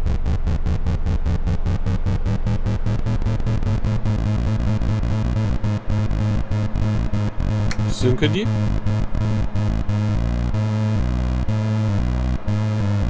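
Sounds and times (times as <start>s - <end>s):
pulsing synthesizer drone: 0.0s - 13.0s.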